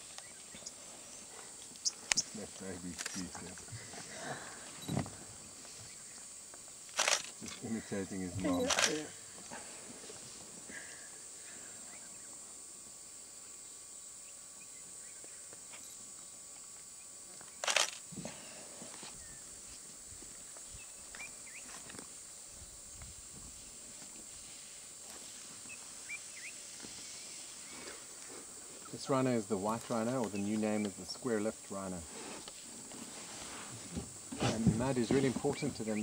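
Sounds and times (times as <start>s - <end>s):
high insect drone: 0.0s - 36.0s.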